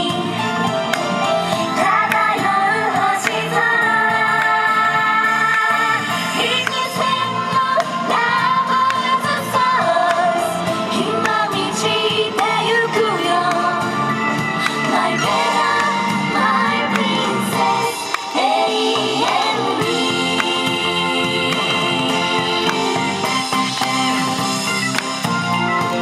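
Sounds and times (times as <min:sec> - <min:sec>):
female group singing pop song: 0:00.0 - 0:00.6, 0:01.2 - 0:23.4
instrumental music: 0:00.0 - 0:26.0.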